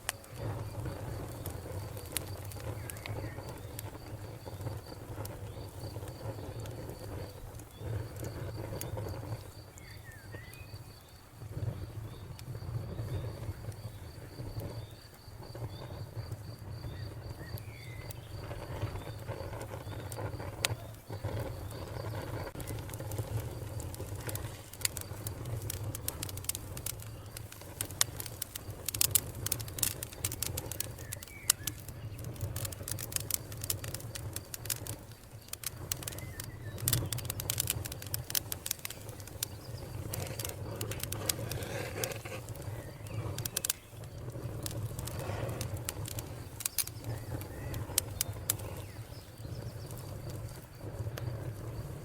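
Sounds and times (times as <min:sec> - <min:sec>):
burning wood popping and crackling: 0:00.0 - 0:52.0
low rumble of flame: 0:00.0 - 0:52.0.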